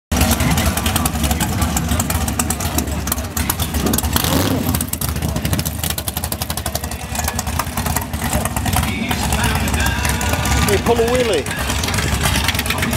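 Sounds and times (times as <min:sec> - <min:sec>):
dragster engine choppy exhaust: 0:00.1 - 0:12.9.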